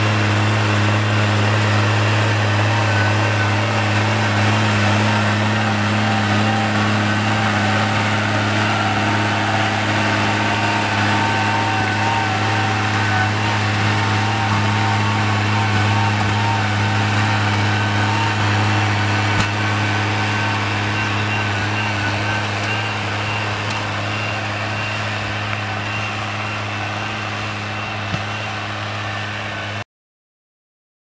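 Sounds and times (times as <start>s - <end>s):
tractor engine under load: 0.0s - 29.8s.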